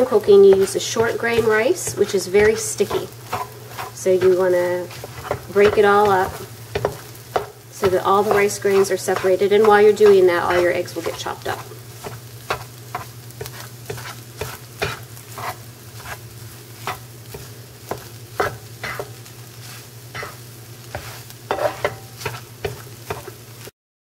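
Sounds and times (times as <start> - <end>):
spatula scraping a skillet: 0.0 - 23.5
light frying sizzle: 0.0 - 23.7.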